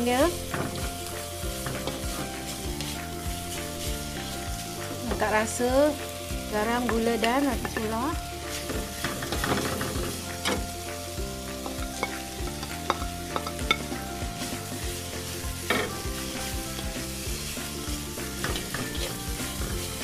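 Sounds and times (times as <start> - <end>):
spatula scraping and knocking a wok: 0.0 - 20.0
vegetables and meat sizzling: 0.0 - 20.0.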